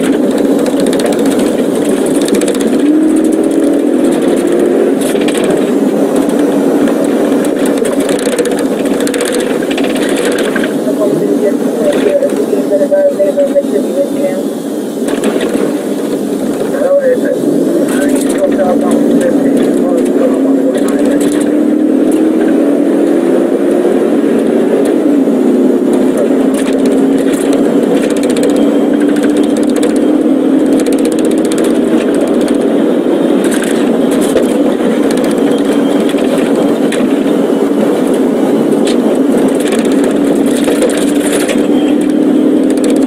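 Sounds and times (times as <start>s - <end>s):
car engine and tyre noise: 0.0s - 43.0s.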